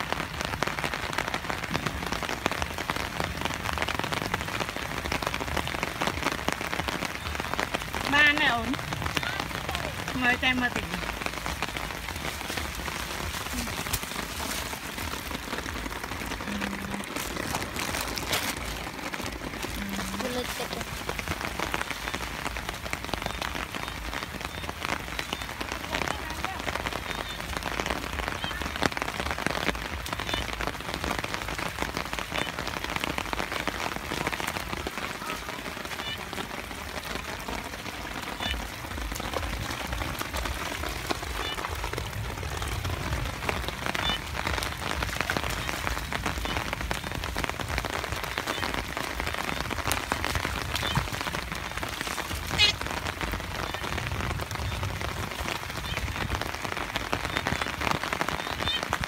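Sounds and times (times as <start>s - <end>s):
rain pattering on puddles: 0.0s - 59.0s.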